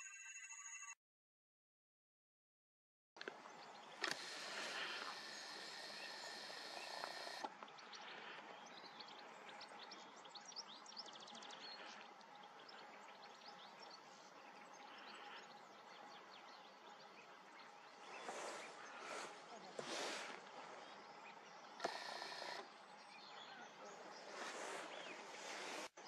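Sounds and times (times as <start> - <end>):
steady outdoor hiss: 3.2 - 26.0.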